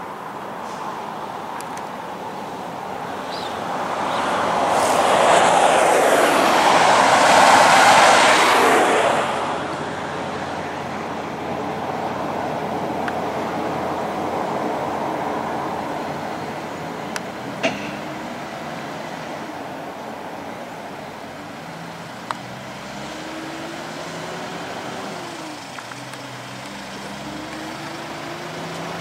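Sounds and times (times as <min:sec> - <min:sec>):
low traffic rumble: 0:00.0 - 0:29.0
vehicle passing on highway: 0:00.0 - 0:29.0.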